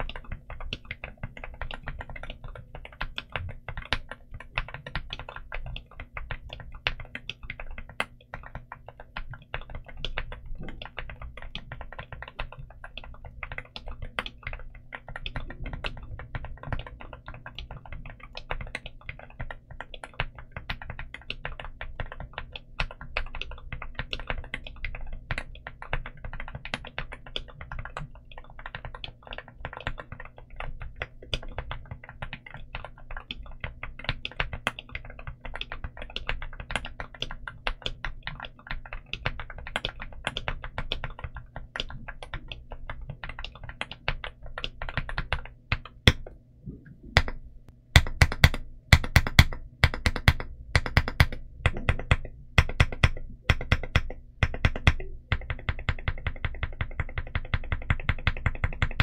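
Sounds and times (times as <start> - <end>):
mechanical keyboard typing: 0.0 - 46.3, 48.0 - 59.0.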